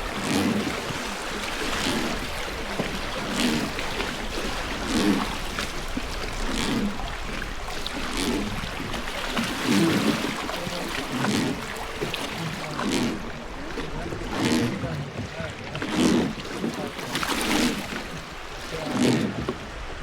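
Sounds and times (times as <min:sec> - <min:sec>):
oars splashing: 0:00.0 - 0:20.0.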